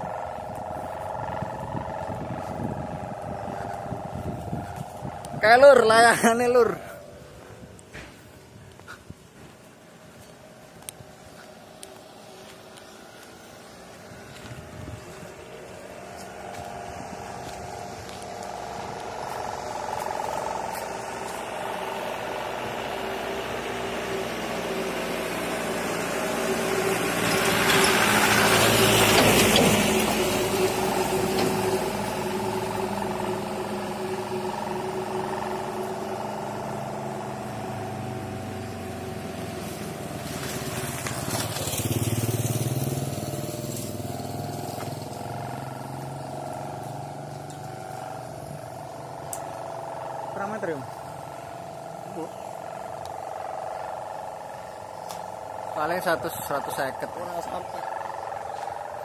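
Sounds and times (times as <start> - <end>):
kite hummer droning: 0.0 - 59.0.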